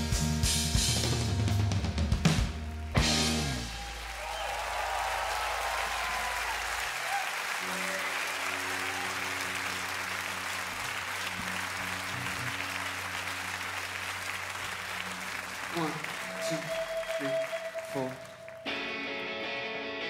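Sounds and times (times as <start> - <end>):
audience applauding: 2.2 - 19.5.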